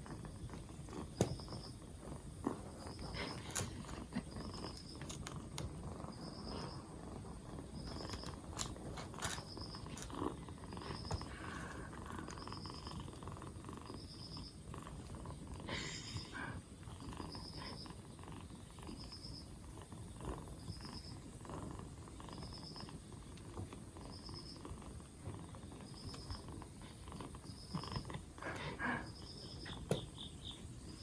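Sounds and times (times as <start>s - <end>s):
kitten purring: 0.0s - 31.0s.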